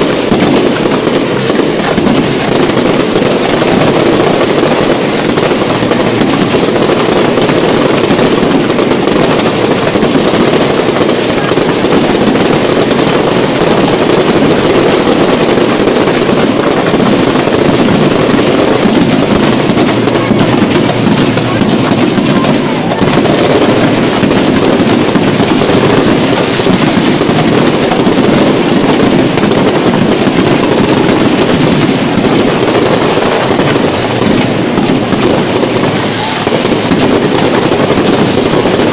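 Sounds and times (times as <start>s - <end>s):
fireworks bangs and crackle: 0.0s - 38.9s.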